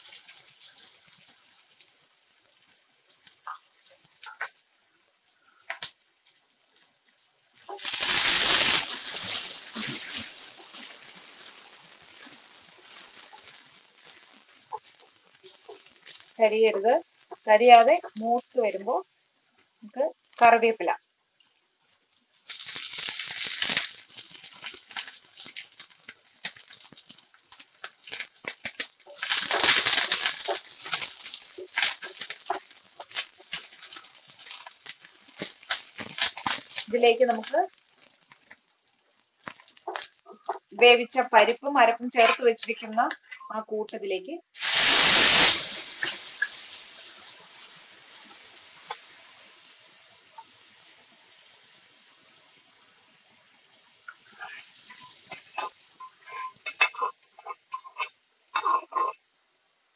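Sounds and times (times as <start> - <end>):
shallots sizzling in hot oil: 0.0 - 43.2, 43.9 - 59.2
crackles and pops: 0.0 - 59.9.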